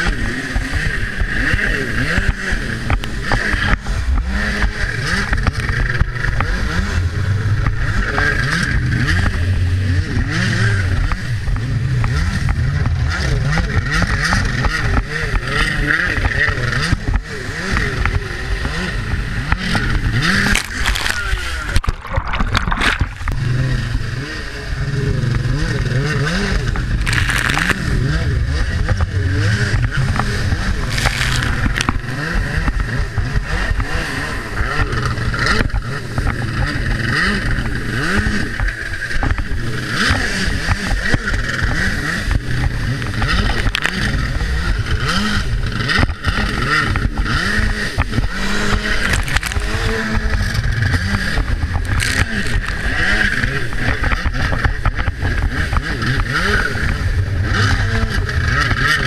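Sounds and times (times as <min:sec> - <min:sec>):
jet ski engine revving: 0:00.0 - 0:59.0.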